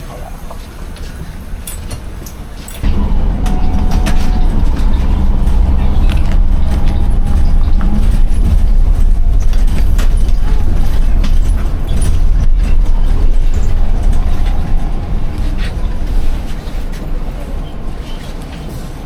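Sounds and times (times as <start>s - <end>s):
bus engine rumbling: 0.0s - 19.0s.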